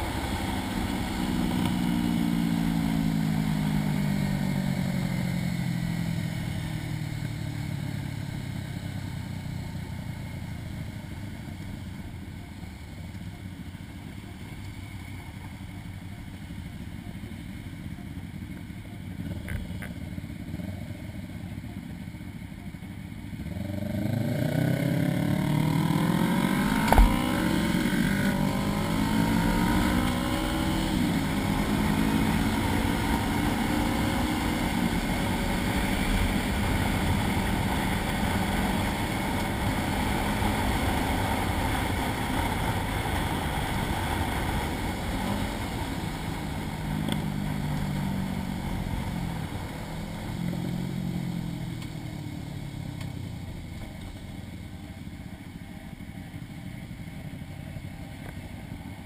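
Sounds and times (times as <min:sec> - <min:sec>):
motorcycle engine accelerating: 0:00.0 - 0:59.0
road and wind noise: 0:00.0 - 0:59.0.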